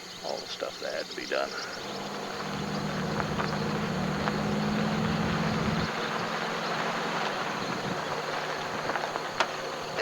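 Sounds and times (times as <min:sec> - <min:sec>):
steady background hiss: 0:00.0 - 0:10.0
car engine humming: 0:01.2 - 0:10.0.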